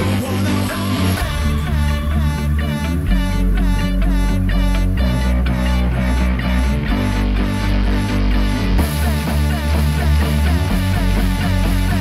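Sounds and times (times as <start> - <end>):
background music with strong bass: 0.0 - 12.0.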